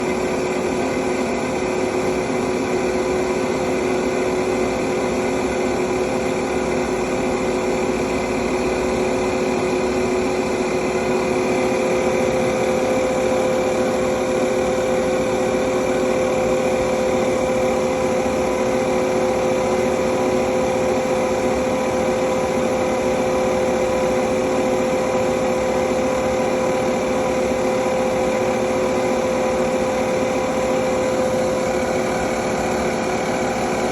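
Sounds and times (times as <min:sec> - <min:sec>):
milling machine motor hum: 0:00.0 - 0:33.9.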